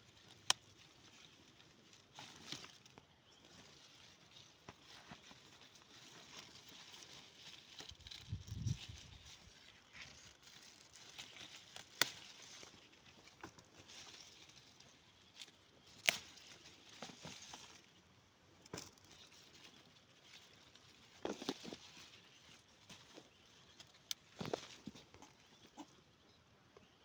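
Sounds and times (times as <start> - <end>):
pepper plants rustling: 0.0 - 27.0.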